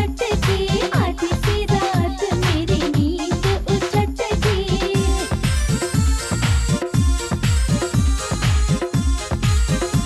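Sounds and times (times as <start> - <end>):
drum beats dropping in pitch: 0.0 - 10.0.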